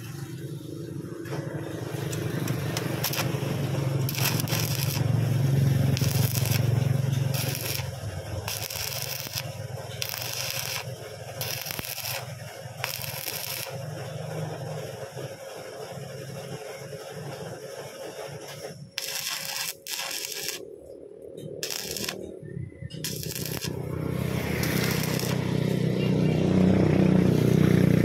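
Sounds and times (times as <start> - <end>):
steady low hum: 0.0 - 25.8
welding arc crackling: 1.7 - 16.9, 18.0 - 25.9.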